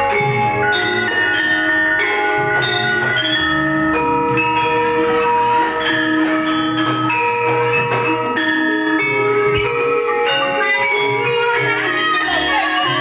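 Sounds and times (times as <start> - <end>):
gamelan music: 0.0 - 13.0.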